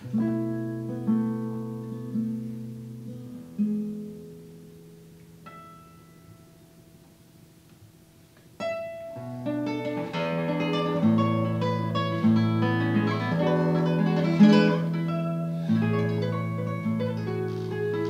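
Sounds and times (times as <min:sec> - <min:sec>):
fingerpicked classical guitar: 0:00.0 - 0:18.0.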